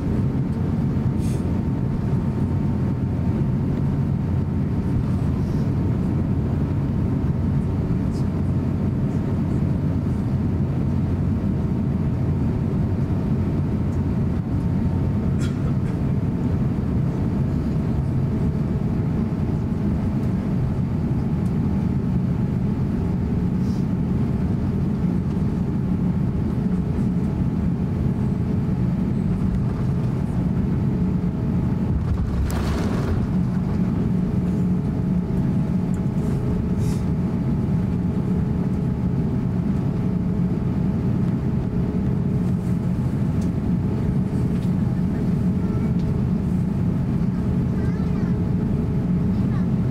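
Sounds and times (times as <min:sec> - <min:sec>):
jet engines rumbling in cabin: 0:00.0 - 0:49.9.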